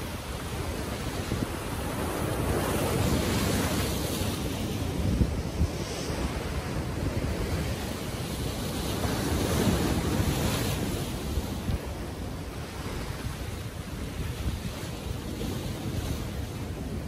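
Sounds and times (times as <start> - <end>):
surf washing over rocks: 0.0 - 17.0
wind rumbling on microphone: 0.0 - 17.0.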